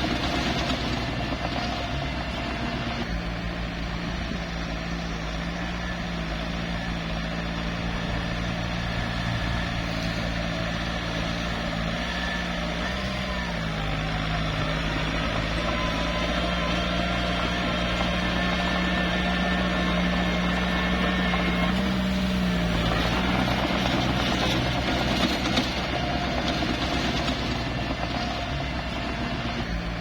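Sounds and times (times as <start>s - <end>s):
bulldozer diesel engine running: 0.0s - 30.0s
rough grinding noise: 0.0s - 30.0s.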